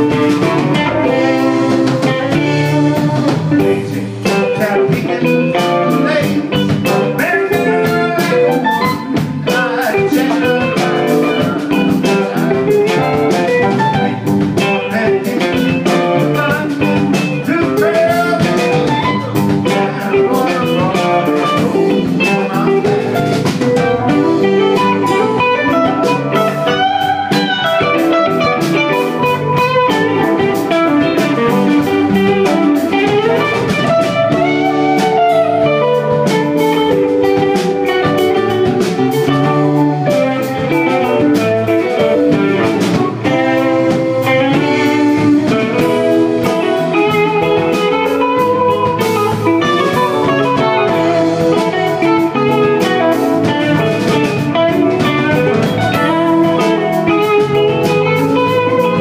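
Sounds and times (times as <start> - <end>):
bass guitar: 0.0 - 59.0
drum kit: 0.0 - 59.0
electric guitars: 0.0 - 59.0
keyboard: 0.0 - 59.0.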